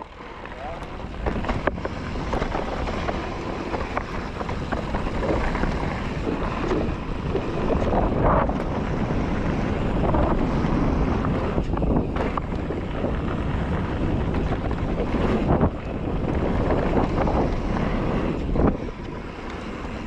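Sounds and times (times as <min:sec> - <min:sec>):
bike clattering over rough ground: 0:00.0 - 0:20.0
tyre rumble: 0:00.0 - 0:20.0
wind on microphone: 0:00.0 - 0:20.0.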